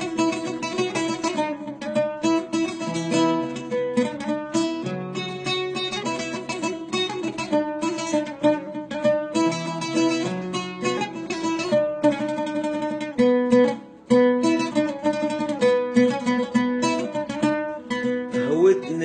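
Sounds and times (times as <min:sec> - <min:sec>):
plucked string instrument melody: 0:00.0 - 0:19.0.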